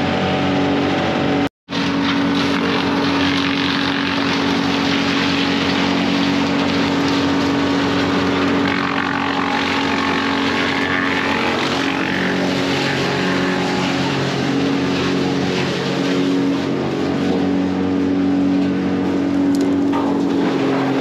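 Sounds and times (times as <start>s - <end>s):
wood chipper engine running: 0.0s - 21.0s.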